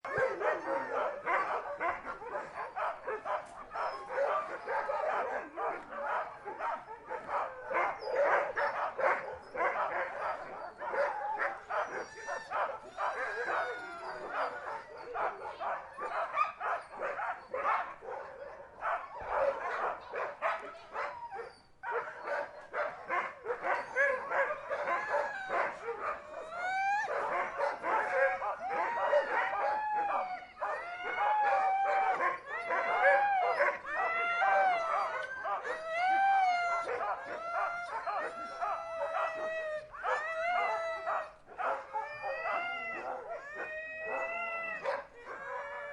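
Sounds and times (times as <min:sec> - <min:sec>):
dogs howling and whining: 0:00.0 - 0:45.9
huskies barking and yipping: 0:00.0 - 0:45.9.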